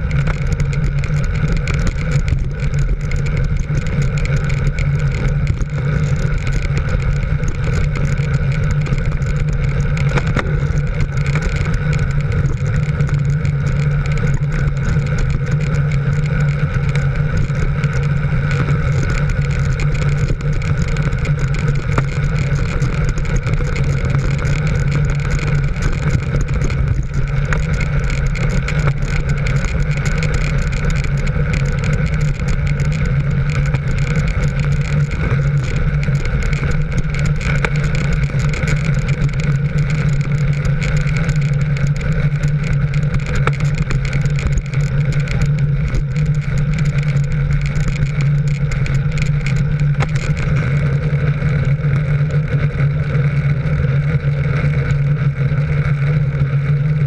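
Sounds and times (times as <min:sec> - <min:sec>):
road and wind noise: 0:00.0 - 0:57.0
vehicle engine droning: 0:00.0 - 0:57.0.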